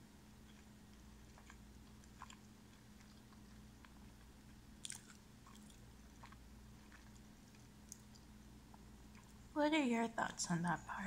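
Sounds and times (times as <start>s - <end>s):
low steady hum: 0.0s - 11.0s
faint chewing with mouth clicks: 0.2s - 9.5s.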